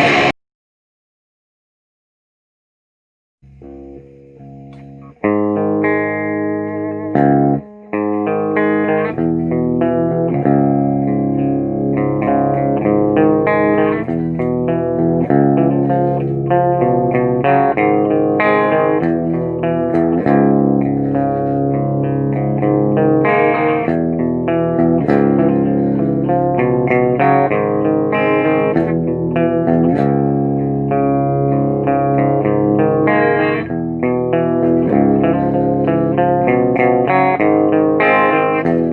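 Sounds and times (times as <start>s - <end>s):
electric guitar chords and notes: 0.0s - 0.4s, 3.4s - 38.9s.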